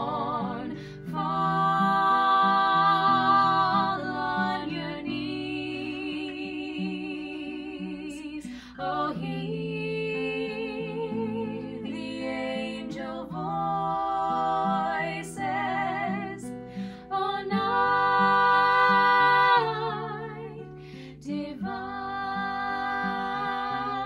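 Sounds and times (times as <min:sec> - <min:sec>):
acoustic guitar: 0:00.0 - 0:24.0
two women singing: 0:00.0 - 0:24.0.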